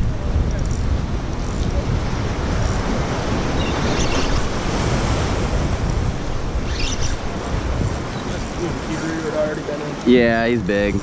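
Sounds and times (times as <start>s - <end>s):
sea waves: 0.0s - 11.0s
wind buffeting microphone: 0.0s - 11.0s.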